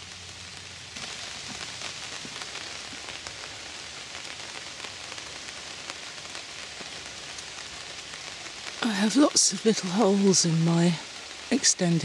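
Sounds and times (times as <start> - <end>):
rain on a tarp: 0.0 - 12.0.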